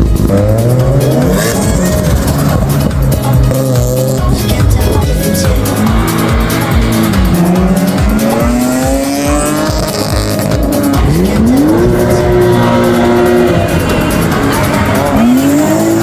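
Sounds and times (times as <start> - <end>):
background music with beat: 0.0 - 16.0
car engine revving: 0.0 - 16.0.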